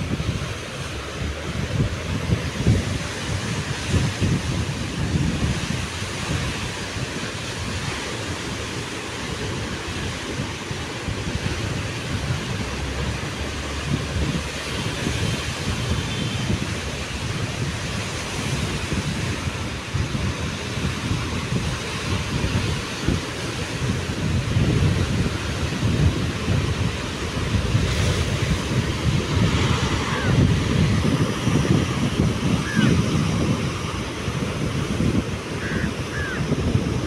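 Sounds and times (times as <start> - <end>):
surf breaking against rocks: 0.0 - 35.7
wind buffeting the microphone: 0.0 - 37.0.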